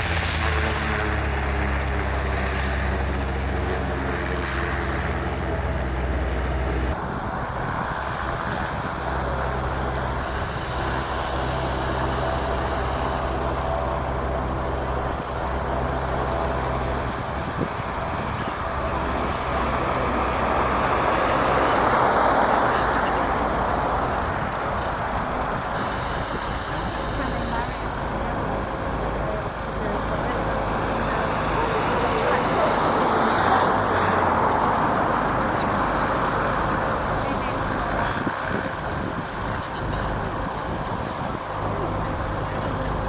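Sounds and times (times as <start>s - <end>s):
helicopter rotor and engine drone: 0.0s - 43.0s.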